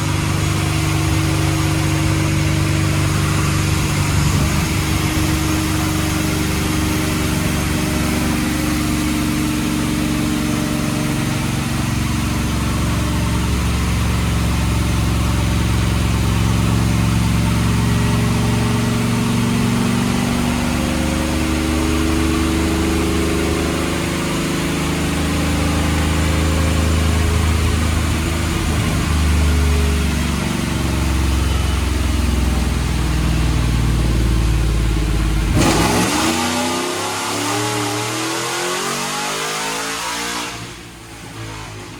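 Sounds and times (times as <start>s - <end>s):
car engine running steadily: 0.0s - 41.9s.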